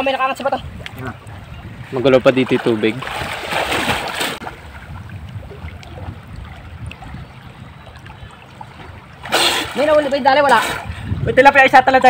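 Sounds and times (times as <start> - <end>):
river water splashing: 0.0 - 12.0.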